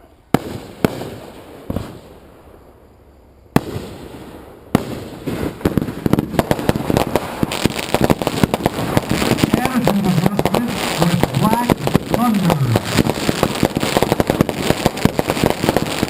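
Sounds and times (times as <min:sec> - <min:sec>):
firework bangs: 0:00.0 - 0:02.6, 0:03.5 - 0:16.0
firework crackle: 0:00.0 - 0:02.9, 0:03.5 - 0:16.0.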